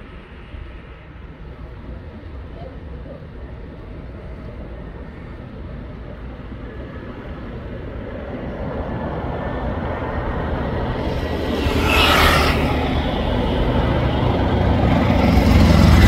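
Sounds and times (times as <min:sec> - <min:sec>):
jet airliner engine rumble: 0:00.0 - 0:16.0.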